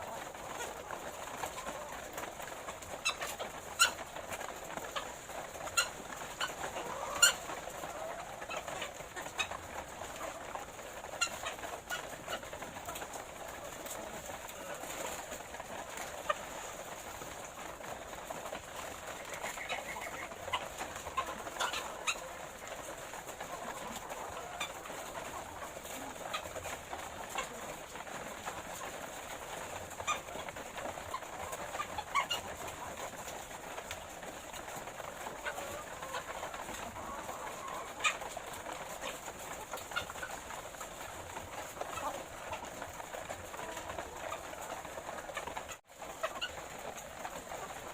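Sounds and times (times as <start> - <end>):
hens calling: 0.0 - 47.9.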